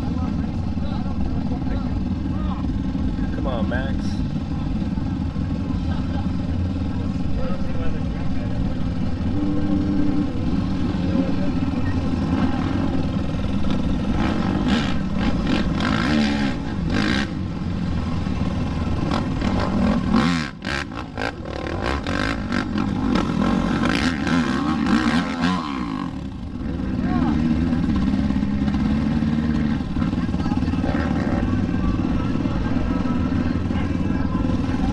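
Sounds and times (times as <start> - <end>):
quad engines revving: 0.0 - 34.9.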